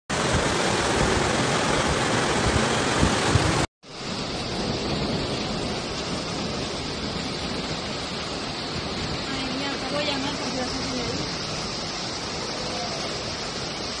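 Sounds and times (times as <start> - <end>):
floodwater rushing: 0.1 - 14.0.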